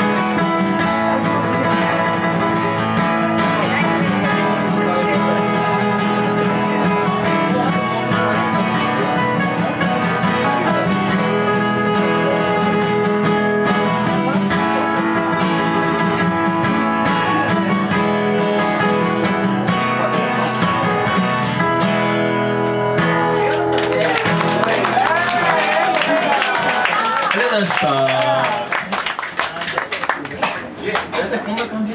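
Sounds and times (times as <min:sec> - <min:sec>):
acoustic guitar strumming: 0:00.0 - 0:29.2.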